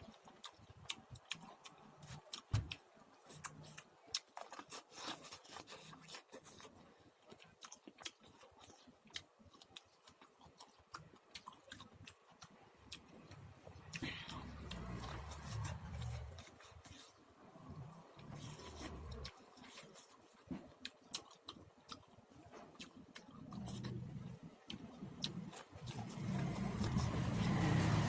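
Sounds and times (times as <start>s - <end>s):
popcorn being chewed: 0.0s - 28.0s.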